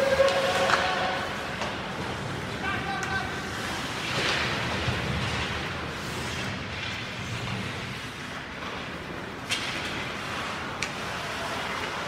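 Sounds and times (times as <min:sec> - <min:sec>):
arena hall noise: 0:00.0 - 0:12.0
skates scraping ice: 0:00.0 - 0:12.0.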